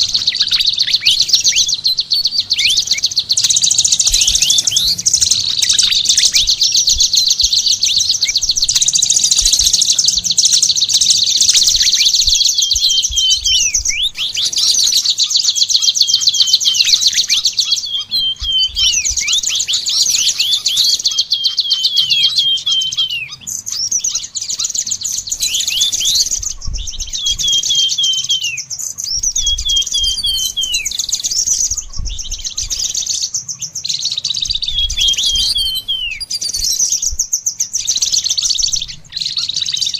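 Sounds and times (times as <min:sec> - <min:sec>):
down-slurred bird whistles: 0:00.0 - 0:39.9
songbird trilling: 0:00.0 - 0:39.9.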